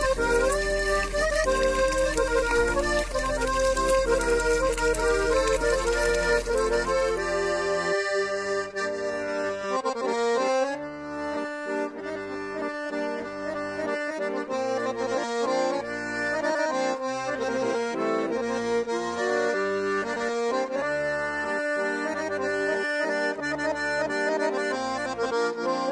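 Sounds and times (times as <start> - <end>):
accordion music: 0.0 - 25.9.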